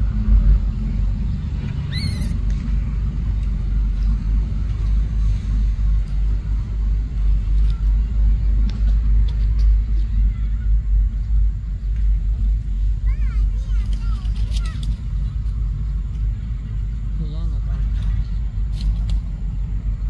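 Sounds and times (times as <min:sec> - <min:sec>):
low unsteady rumble: 0:00.0 - 0:20.0.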